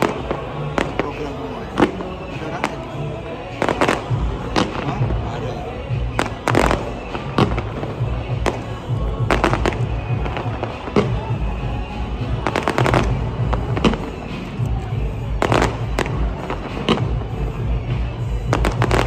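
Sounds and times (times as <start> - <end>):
fireworks bursting: 0.0 - 19.0
fireworks crackling: 0.0 - 19.0.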